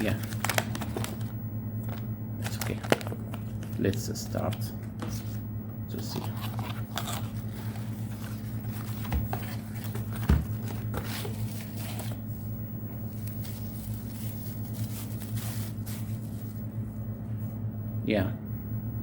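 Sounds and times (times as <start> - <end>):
packaging crinkling: 0.0 - 5.2, 6.0 - 16.6
low electrical hum: 0.0 - 19.0.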